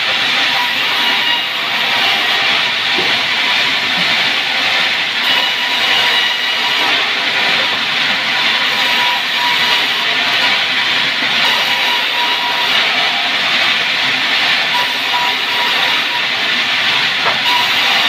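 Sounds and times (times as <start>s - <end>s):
sawmill saw cutting timber: 0.0s - 18.0s.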